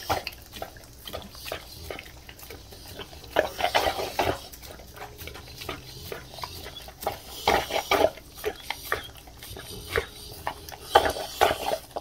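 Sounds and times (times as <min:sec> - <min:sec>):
dog chewing and smacking: 0:00.0 - 0:12.0.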